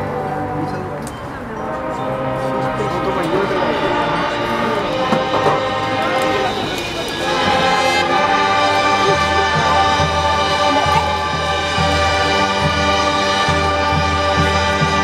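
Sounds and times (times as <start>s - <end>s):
brass sustained chords: 0.0s - 15.0s
low bass notes: 1.8s - 15.0s.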